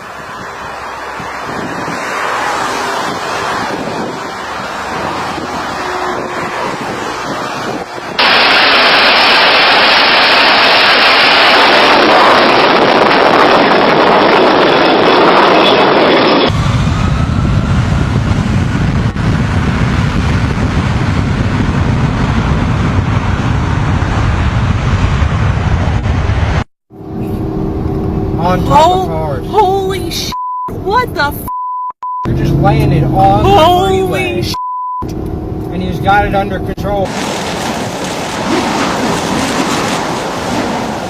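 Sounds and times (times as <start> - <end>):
plane engine and rushing air: 0.0 - 41.0
deep rumble: 2.9 - 41.0.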